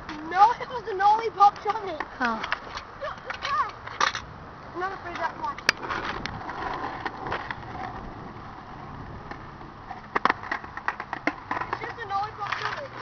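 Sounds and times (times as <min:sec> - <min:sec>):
skateboard clacking on pavement: 0:00.0 - 0:13.0
skateboard wheels rolling on asphalt: 0:00.0 - 0:13.0.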